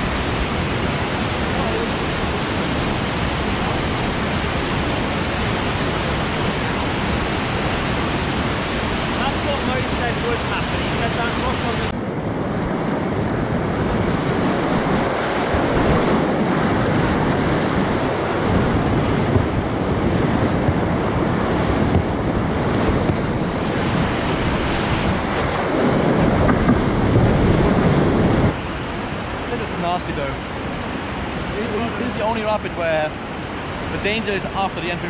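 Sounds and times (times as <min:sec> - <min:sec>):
whitewater rushing: 0:00.0 - 0:35.0
wind buffeting microphone: 0:00.0 - 0:35.0.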